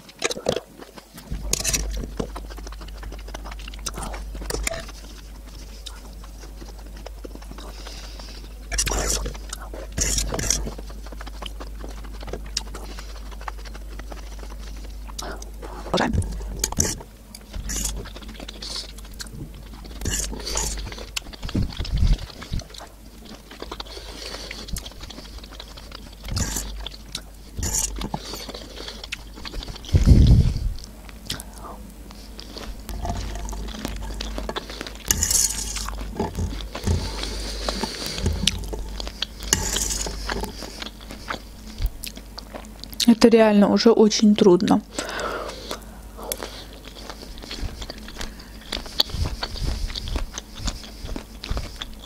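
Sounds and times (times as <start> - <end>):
chewing corn kernels: 0.0 - 43.5, 44.2 - 52.0.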